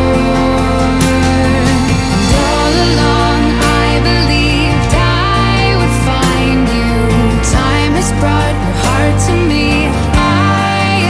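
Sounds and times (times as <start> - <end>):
song with sustained bass: 0.0 - 11.0.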